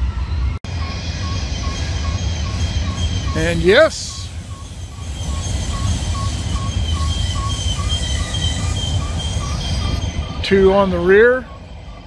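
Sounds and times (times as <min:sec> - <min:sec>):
diesel locomotives rumbling: 0:00.0 - 0:12.0.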